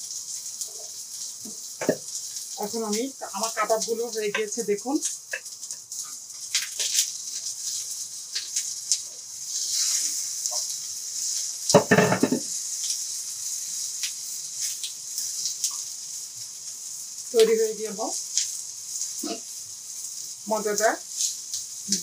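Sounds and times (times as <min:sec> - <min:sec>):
meat sizzling on hot tray: 0:00.0 - 0:22.0.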